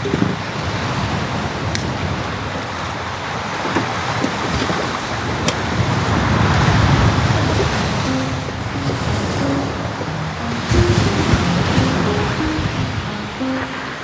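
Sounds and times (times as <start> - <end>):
sea waves breaking on shore: 0.0 - 14.0.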